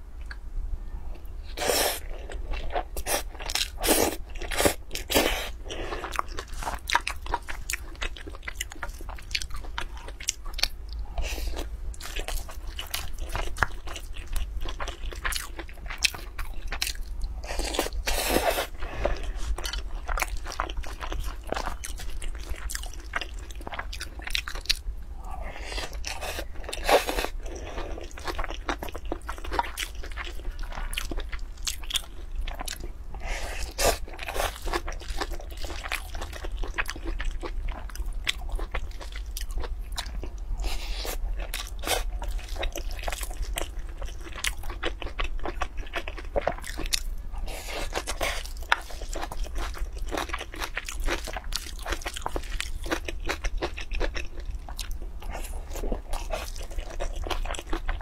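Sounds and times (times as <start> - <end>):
person chewing crunchy food: 1.1 - 58.0.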